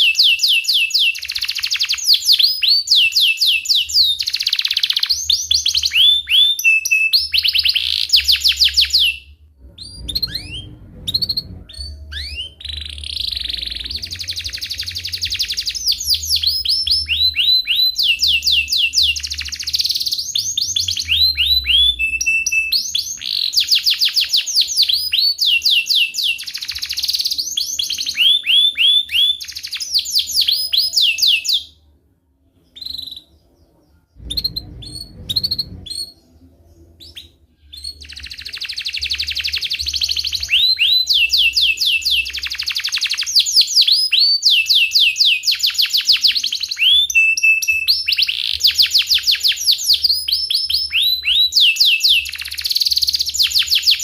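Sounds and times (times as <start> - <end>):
canary trilling: 0.0 - 31.8, 32.5 - 54.0.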